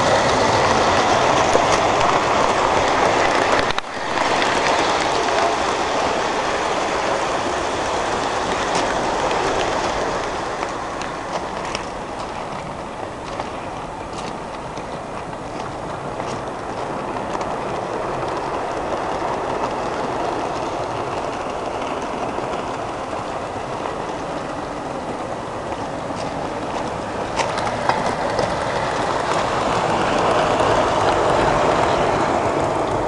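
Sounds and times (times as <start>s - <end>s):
model train rolling on metal track: 0.0s - 33.0s.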